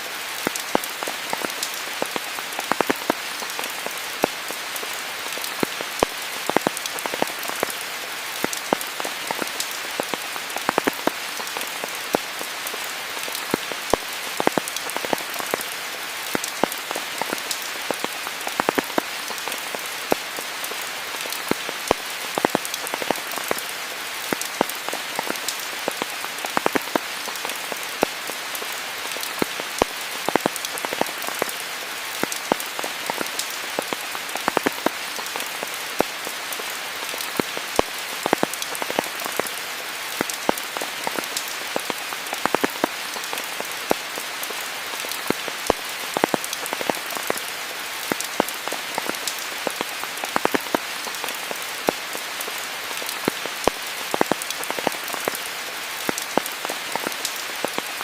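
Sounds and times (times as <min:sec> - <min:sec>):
close raindrops striking: 0:00.0 - 0:58.0
rain falling: 0:00.0 - 0:58.0.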